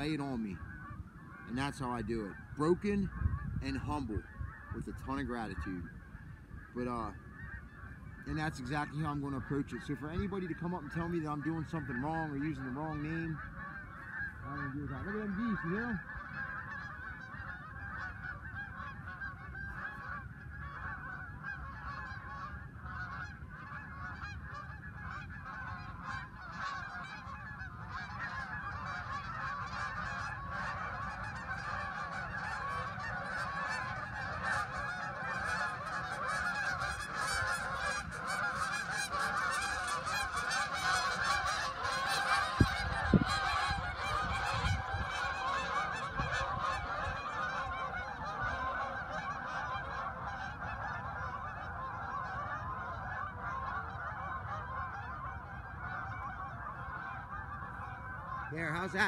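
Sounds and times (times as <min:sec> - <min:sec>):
geese honking in flight: 0:00.0 - 0:59.0.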